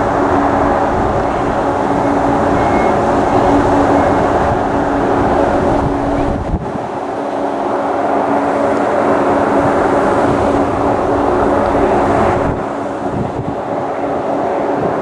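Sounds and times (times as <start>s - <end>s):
two-note hum: 0.0s - 6.6s, 7.3s - 14.0s
airliner engine rushing: 0.0s - 15.0s.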